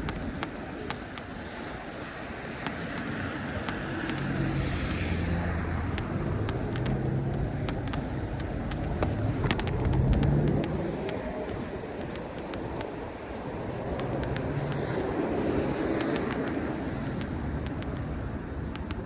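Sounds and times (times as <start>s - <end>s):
wind and tyre noise: 0.0s - 19.0s
car engine humming: 2.5s - 19.0s
sharp clicks: 2.6s - 19.0s.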